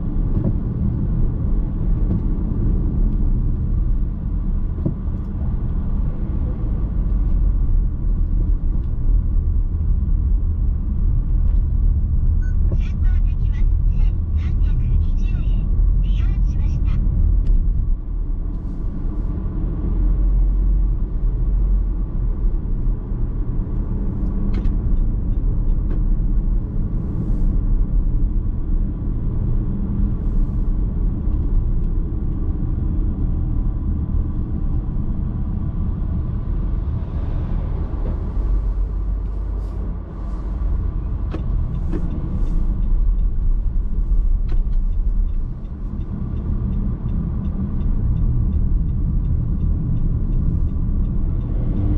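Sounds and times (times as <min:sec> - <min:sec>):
car interior road rumble: 0:00.0 - 0:51.9.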